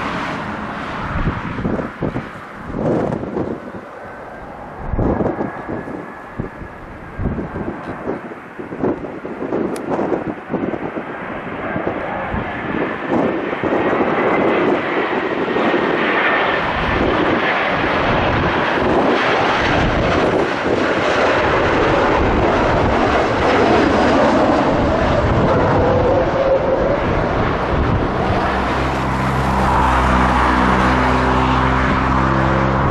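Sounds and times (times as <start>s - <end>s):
jet engine roar: 0.0s - 32.9s.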